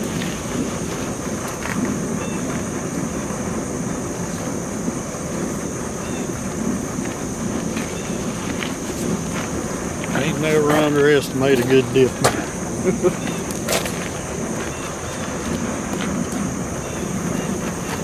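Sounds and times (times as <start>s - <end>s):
high-pitched hiss: 0.0s - 18.0s
wind rumbling on microphone: 0.0s - 18.0s.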